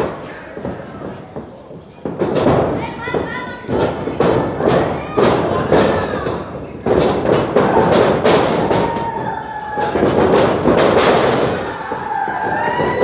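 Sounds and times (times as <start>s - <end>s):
bodies thudding on wrestling ring: 0.0s - 13.0s
noisy background: 0.0s - 13.0s.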